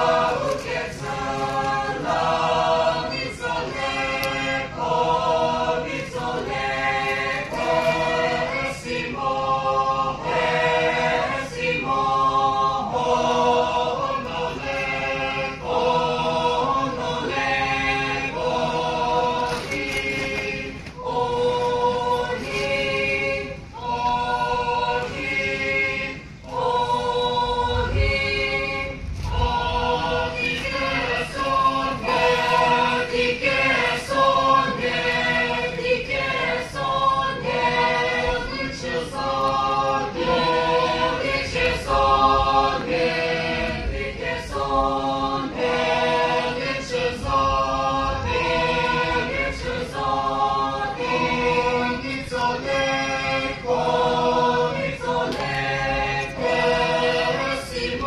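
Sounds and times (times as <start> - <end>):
mixed chorus singing folk song: 0.0 - 58.0.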